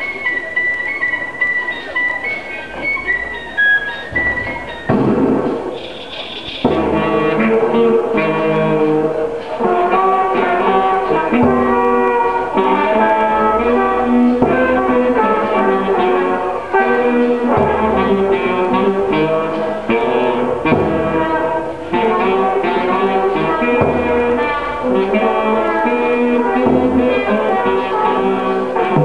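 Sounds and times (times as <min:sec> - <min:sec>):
instrumental music: 0:00.0 - 0:29.0
low beat: 0:02.6 - 0:29.0.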